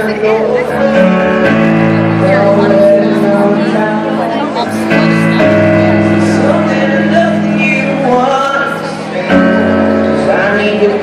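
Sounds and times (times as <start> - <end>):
man singing: 0.0 - 11.0
sustained instrumental chords: 0.0 - 11.0.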